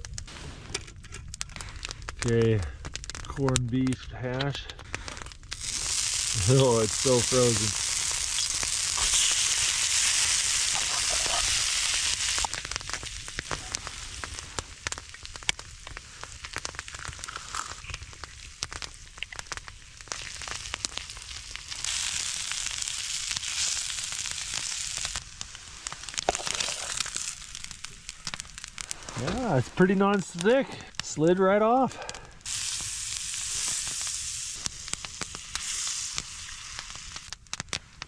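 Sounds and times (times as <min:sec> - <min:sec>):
crackling and popping: 0:00.0 - 0:38.0
food sizzling on a griddle: 0:05.0 - 0:31.2, 0:32.0 - 0:38.0.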